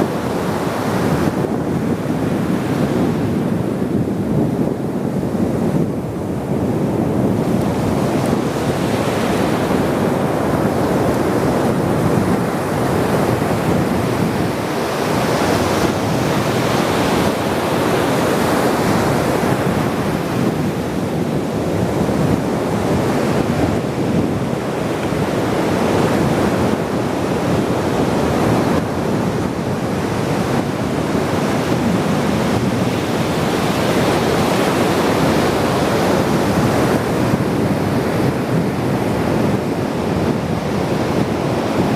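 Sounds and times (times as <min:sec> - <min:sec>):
waves breaking on shore: 0:00.0 - 0:41.9
wind buffeting microphone: 0:00.0 - 0:41.9.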